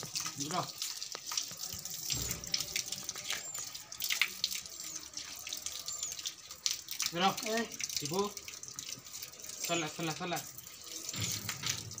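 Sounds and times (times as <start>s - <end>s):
water running from outdoor tap: 0.0s - 12.0s
water splashing on concrete: 0.0s - 12.0s.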